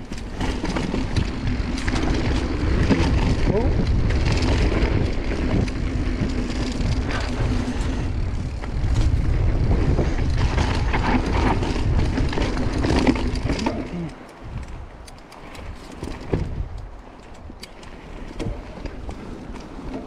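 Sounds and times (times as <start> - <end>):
bike clattering over bumps: 0.0 - 20.0
tyres on dirt trail: 0.0 - 20.0
wind rumbling on microphone: 0.0 - 20.0.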